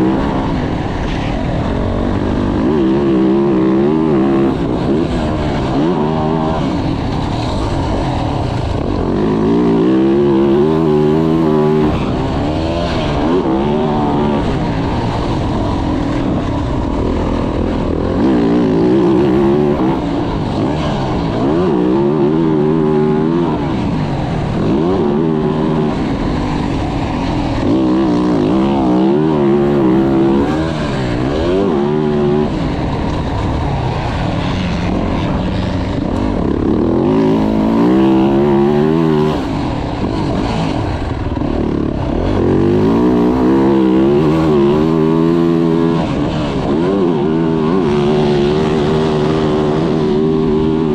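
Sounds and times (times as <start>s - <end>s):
motocross engine revving: 0.0s - 50.9s.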